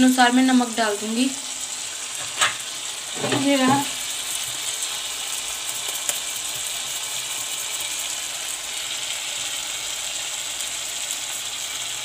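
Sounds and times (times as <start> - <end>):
masala sizzling in a wok: 0.0 - 12.0.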